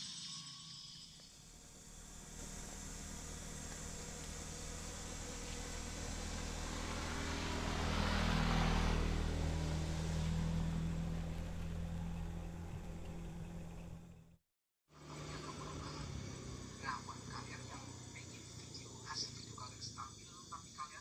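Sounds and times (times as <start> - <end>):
truck engine running: 1.2 - 14.4, 15.0 - 20.3.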